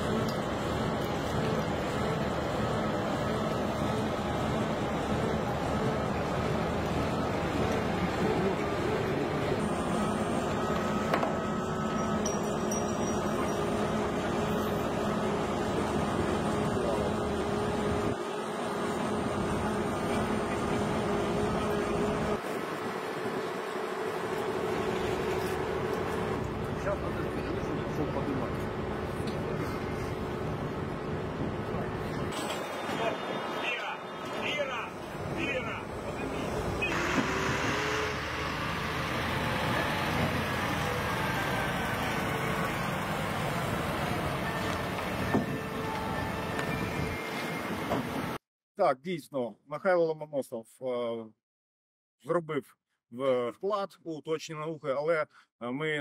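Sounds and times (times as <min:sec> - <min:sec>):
crane engine running: 0:00.0 - 0:48.4
street traffic noise: 0:00.0 - 0:48.4.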